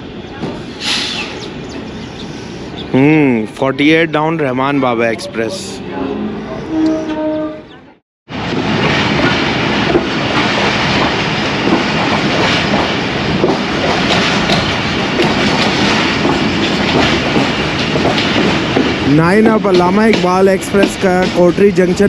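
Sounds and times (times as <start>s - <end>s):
train rumble and wheel clatter: 0.0s - 22.0s.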